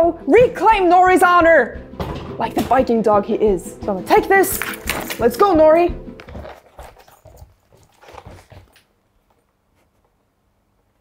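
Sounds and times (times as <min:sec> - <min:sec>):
dog paws tapping wooden floor: 0:00.3 - 0:10.2.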